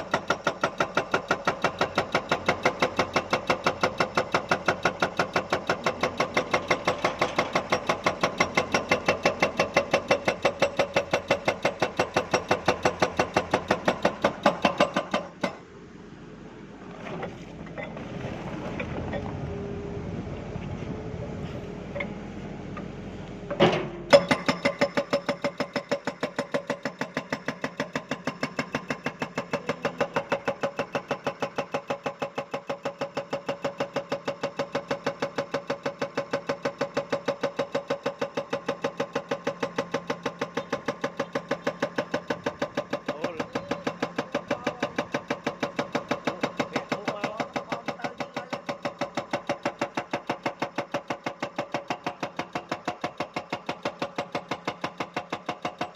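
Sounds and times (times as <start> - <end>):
hydraulic breaker hammering rock: 0.0 - 15.7, 23.5 - 55.9
excavator engine running: 0.0 - 55.9.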